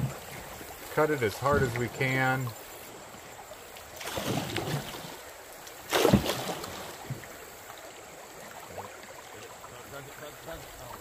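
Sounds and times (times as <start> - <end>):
paddle strokes: 0.0 - 11.0
rushing water: 0.0 - 11.0.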